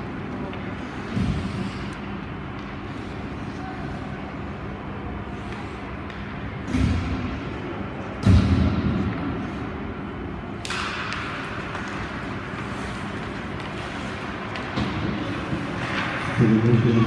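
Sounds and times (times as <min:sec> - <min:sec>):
ice rink background noise: 0:00.0 - 0:17.0.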